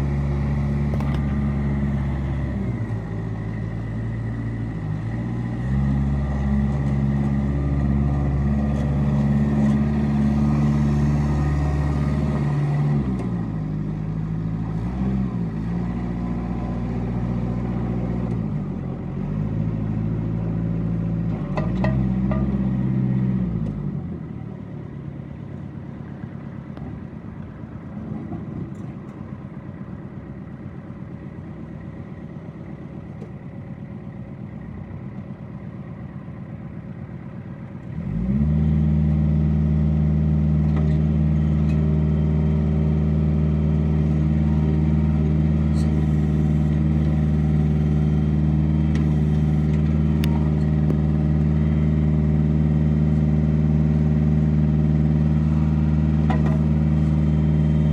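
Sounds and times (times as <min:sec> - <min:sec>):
tractor diesel engine revving: 0:00.0 - 0:57.9.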